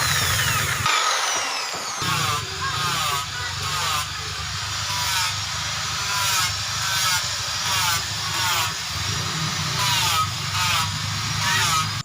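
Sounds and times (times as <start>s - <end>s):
grinder passes on steel blade: 0.0s - 12.0s
motor hum: 0.0s - 12.0s.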